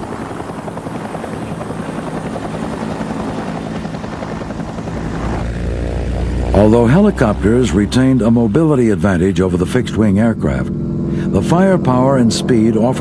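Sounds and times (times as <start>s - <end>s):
deep engine hum: 0.0s - 13.0s
helicopter rotor beat: 0.0s - 13.0s.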